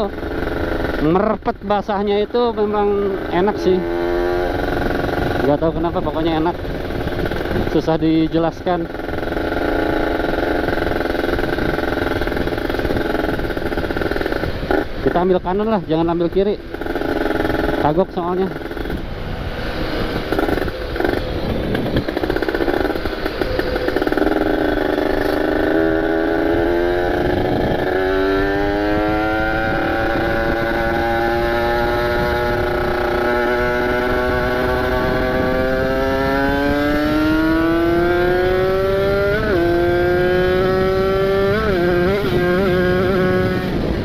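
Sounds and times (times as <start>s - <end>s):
two-stroke engine revving: 0.0s - 44.0s.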